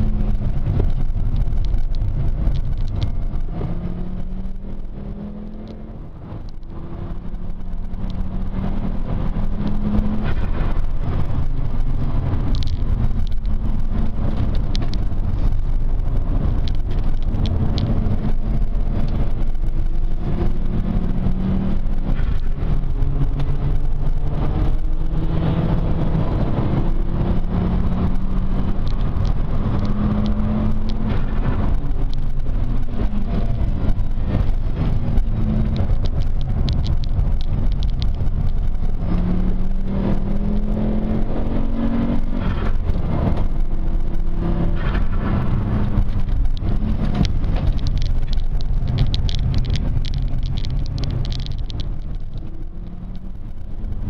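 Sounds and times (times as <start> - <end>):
car engine revving: 0.0 - 54.0
road noise rumble: 0.0 - 54.0.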